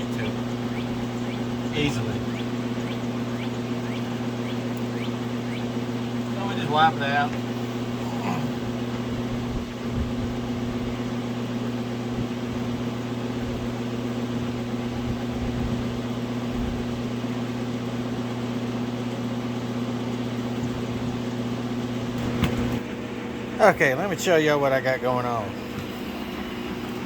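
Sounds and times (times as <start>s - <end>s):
electric fan humming: 0.0s - 27.0s.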